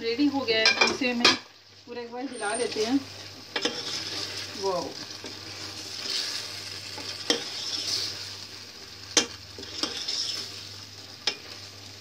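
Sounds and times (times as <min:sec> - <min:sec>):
gravy sizzling in a pot: 0:00.0 - 0:12.0.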